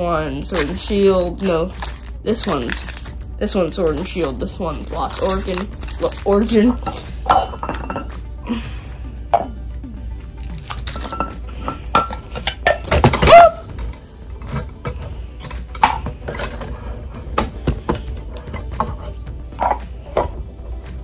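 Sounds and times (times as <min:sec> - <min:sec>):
metal tin halves clinking: 0:00.2 - 0:08.2, 0:10.5 - 0:13.8, 0:14.4 - 0:20.4.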